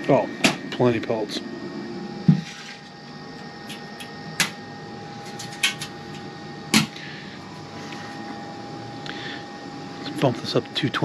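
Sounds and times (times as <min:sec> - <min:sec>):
grill mechanical hum with whine: 0:00.0 - 0:11.0.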